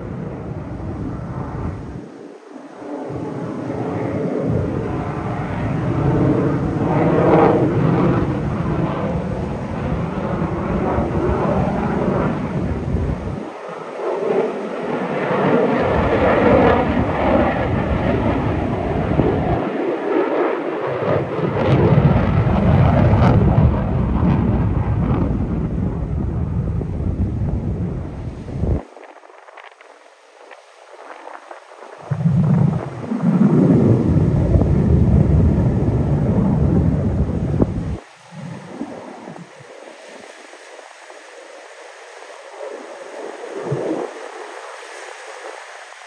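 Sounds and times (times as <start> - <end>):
fighter jet engine roaring: 0.0 - 46.0.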